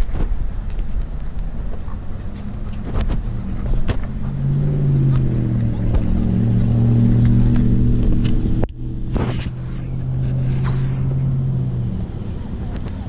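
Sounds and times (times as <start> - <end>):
microphone handling noise: 0.0 - 4.4, 5.0 - 11.5
low motor hum: 0.0 - 13.0
wind on microphone: 0.0 - 13.0.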